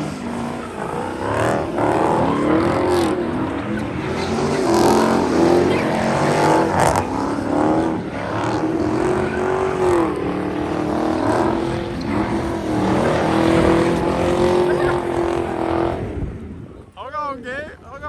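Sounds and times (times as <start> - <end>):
car engines revving hard: 0.0 - 16.8.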